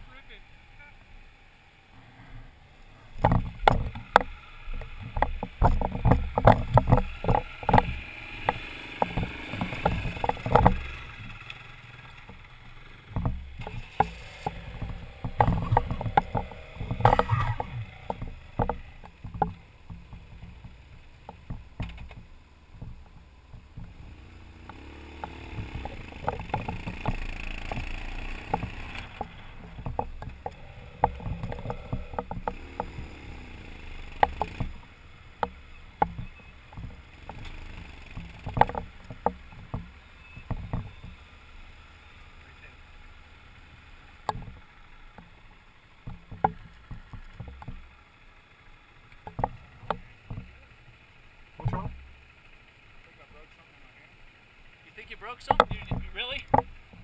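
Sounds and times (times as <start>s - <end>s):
motorcycle engine at low speed: 0.0s - 57.0s
knocks and clatter over rocks: 2.9s - 53.3s, 54.2s - 57.0s.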